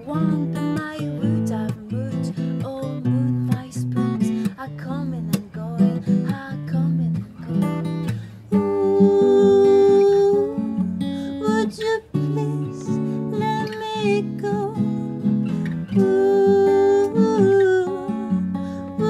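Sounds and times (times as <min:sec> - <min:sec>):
acoustic guitar strumming: 0:00.0 - 0:19.0
woman singing: 0:00.0 - 0:19.0.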